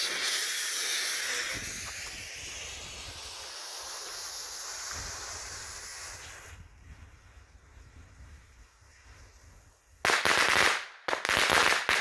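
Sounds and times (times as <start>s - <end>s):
fuse hissing: 0.0s - 10.0s.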